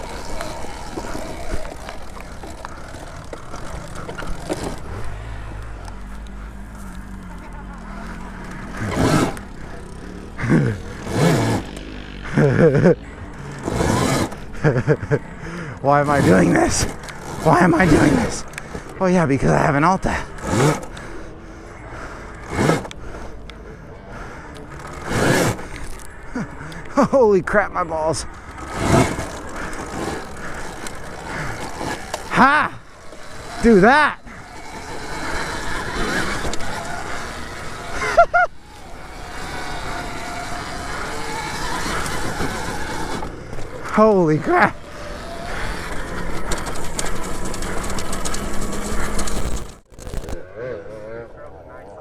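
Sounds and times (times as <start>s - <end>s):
electric motor whine: 0.0s - 19.0s, 27.8s - 50.5s
rider whooping: 0.0s - 51.9s
wind and riding noise: 0.0s - 52.0s.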